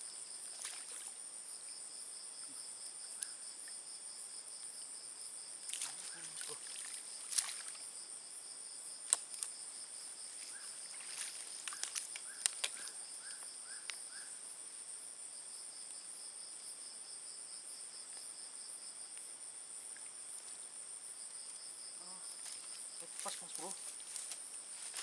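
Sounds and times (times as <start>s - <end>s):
night insects chorus: 0.0s - 25.0s.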